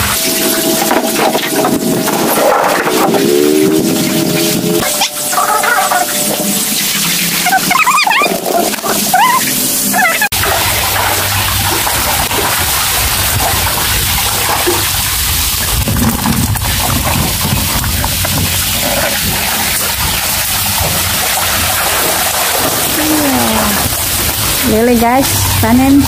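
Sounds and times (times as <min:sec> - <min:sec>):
water splashing and sloshing: 0:00.0 - 0:26.0
water streaming off net: 0:00.0 - 0:26.0.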